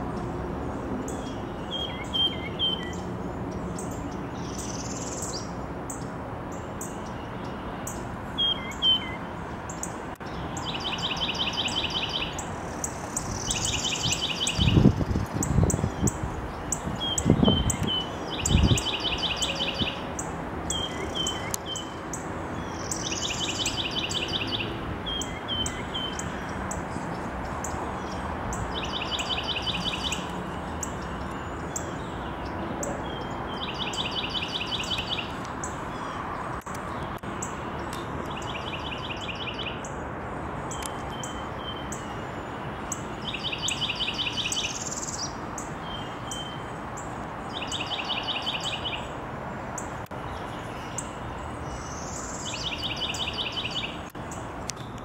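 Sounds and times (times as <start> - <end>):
songbird song with trill: 0.0 - 55.0.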